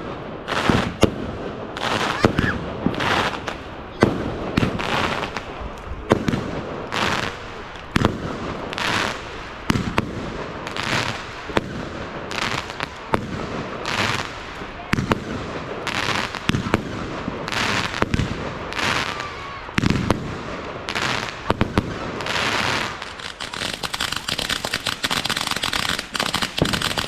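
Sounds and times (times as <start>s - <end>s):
fireworks banging and hissing: 0.0s - 27.0s.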